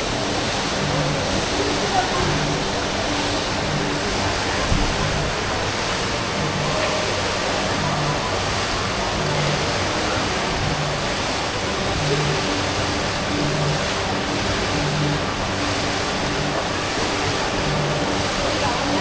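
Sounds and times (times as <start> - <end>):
water falling in fountain: 0.0 - 19.0.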